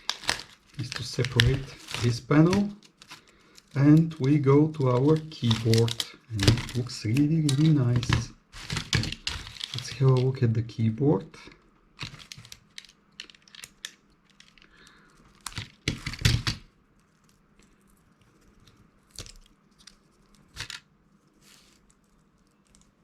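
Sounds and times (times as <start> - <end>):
plastic cracking and tearing: 0.0 - 10.4, 12.0 - 20.9.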